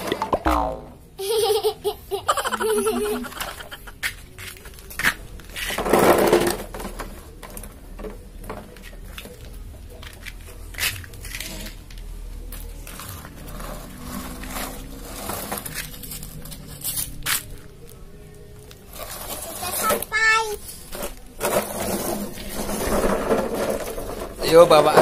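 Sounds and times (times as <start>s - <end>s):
plastic toys scraping and rattling: 2.4s - 17.7s, 18.6s - 25.0s.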